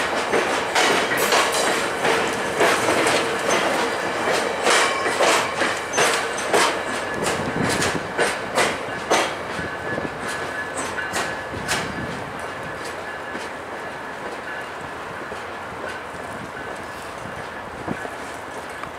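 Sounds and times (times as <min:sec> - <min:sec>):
train wheels clacking over joints: 0:00.0 - 0:18.9.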